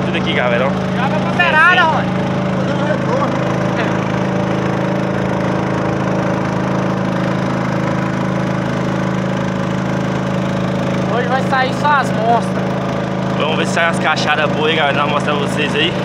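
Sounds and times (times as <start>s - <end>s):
boat motor running: 0.0s - 16.0s.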